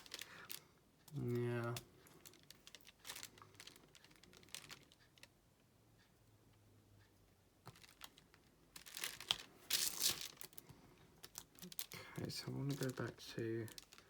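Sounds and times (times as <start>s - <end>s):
plastic crinkling and rustling: 0.0s - 5.3s, 7.6s - 14.0s.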